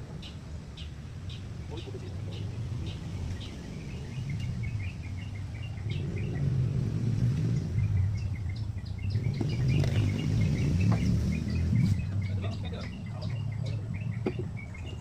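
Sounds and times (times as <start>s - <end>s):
low outdoor rumble: 0.0s - 15.0s
small bird chirping: 0.1s - 15.0s.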